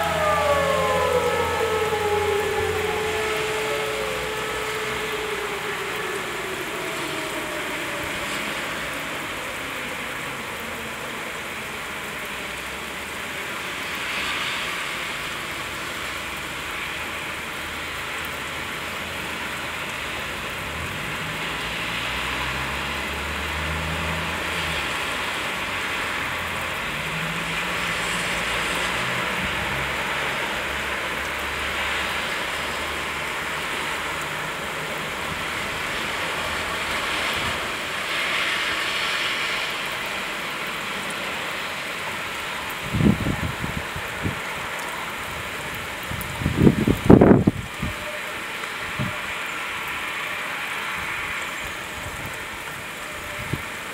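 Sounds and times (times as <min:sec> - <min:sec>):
rain hiss: 0:00.0 - 0:53.9.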